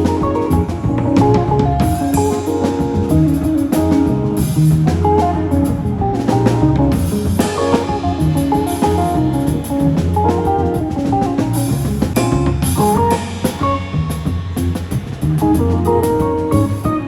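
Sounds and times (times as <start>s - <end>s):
bass: 0.0s - 17.0s
drum kit: 0.0s - 17.0s
electric guitar: 0.0s - 17.0s.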